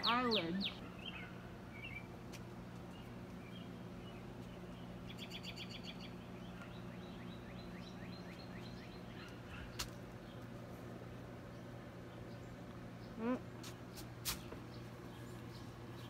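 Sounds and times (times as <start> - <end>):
songbirds singing: 0.0 - 16.0
steady low hum: 0.0 - 16.0.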